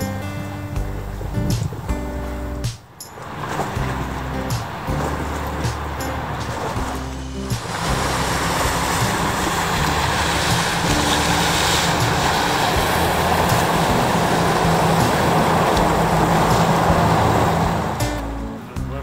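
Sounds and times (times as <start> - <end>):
motorboat engine and wash rushing: 0.0 - 18.8.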